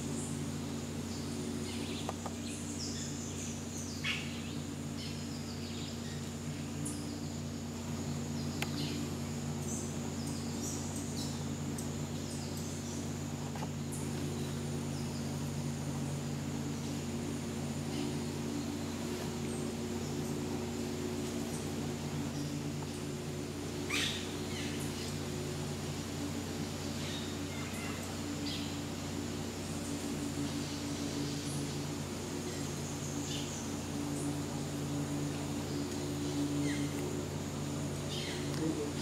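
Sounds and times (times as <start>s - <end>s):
high insect drone: 0.0s - 39.0s
low mechanical hum: 0.0s - 39.0s.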